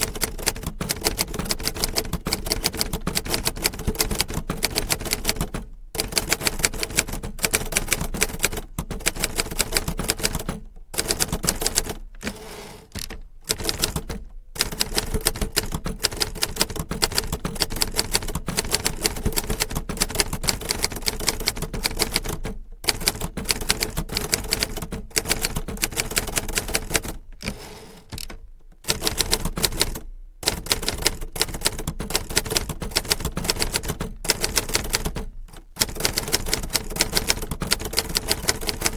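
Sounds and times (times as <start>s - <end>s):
typewriter keys typing: 0.0s - 38.9s.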